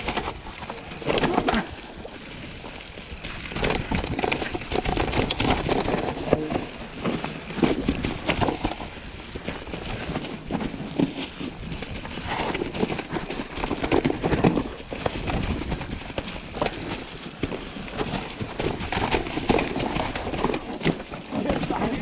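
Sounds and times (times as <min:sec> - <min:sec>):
bike rattling over bumps: 0:00.0 - 0:22.0.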